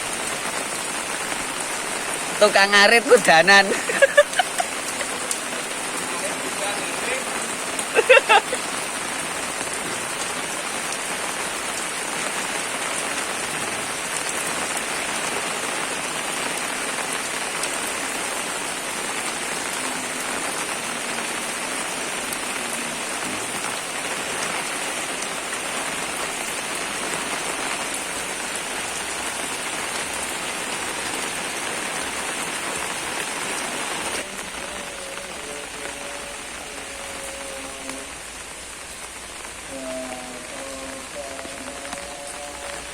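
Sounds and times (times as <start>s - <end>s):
dense rain pattering: 0.0s - 42.9s.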